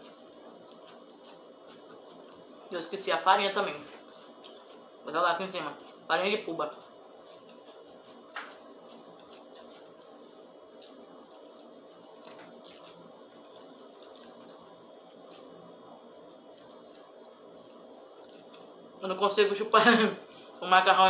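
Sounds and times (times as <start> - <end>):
person chewing: 0.0 - 2.7, 3.7 - 18.9.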